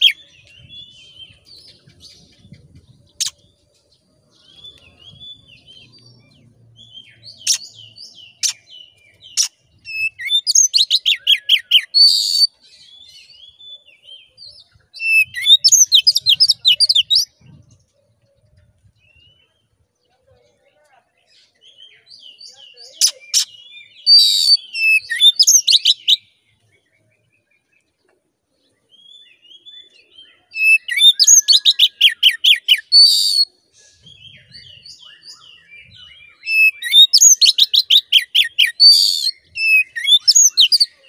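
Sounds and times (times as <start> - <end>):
bird singing whistled trills: 0.0 - 3.6, 4.3 - 17.7, 21.6 - 27.0, 28.9 - 41.0.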